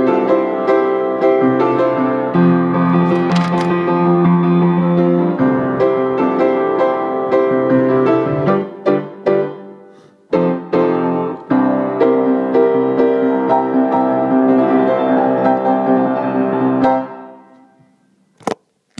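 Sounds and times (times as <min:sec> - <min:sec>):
piano playing: 0:00.0 - 0:17.8.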